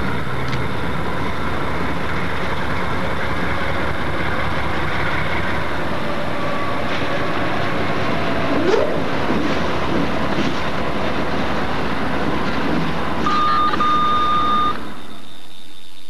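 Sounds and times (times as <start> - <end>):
train passing: 0.0 - 16.0.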